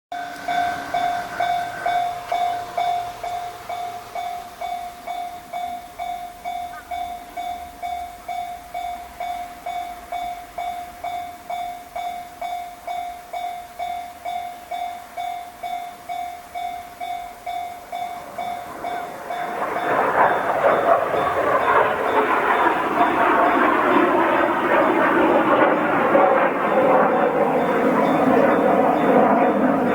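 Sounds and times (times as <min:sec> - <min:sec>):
electric train passing: 0:00.1 - 0:29.9
level crossing warning bell: 0:00.1 - 0:29.9.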